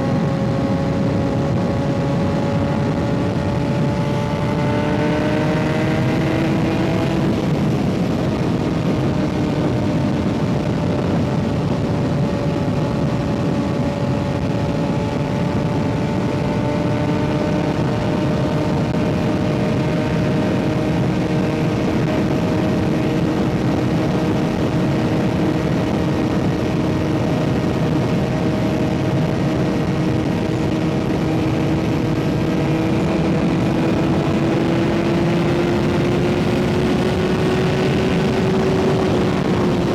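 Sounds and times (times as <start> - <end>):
motorcycle engine cruising: 0.0 - 39.9
wind rush: 0.0 - 39.9.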